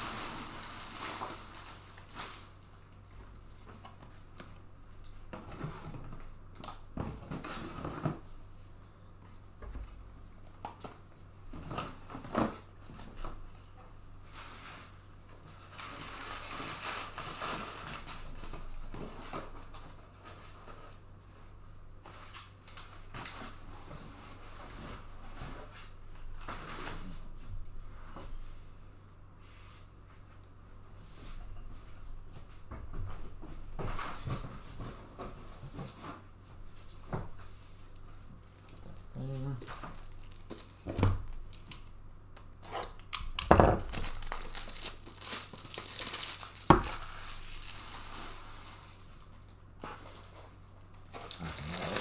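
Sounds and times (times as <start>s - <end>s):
rustling and crinkling handling: 0.0s - 27.6s, 29.4s - 52.0s.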